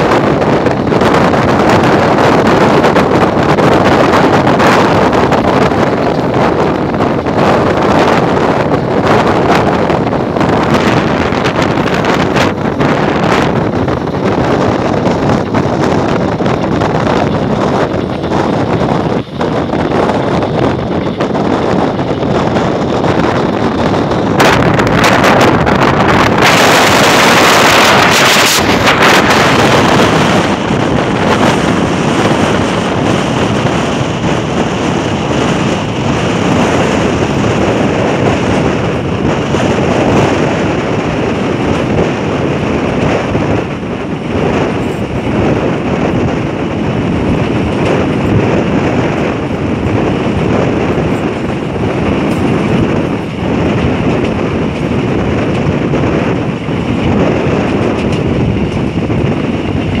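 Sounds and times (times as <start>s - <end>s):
train coach running on rails: 0.0s - 60.0s
wind rushing across microphone: 0.0s - 60.0s.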